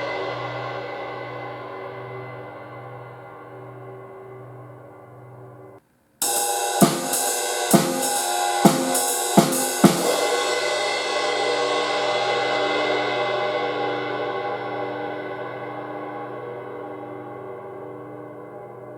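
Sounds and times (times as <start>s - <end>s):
crash cymbal hits: 0.0s - 4.4s, 6.2s - 18.6s
cymbal ringing wash: 0.0s - 4.9s, 6.2s - 18.9s.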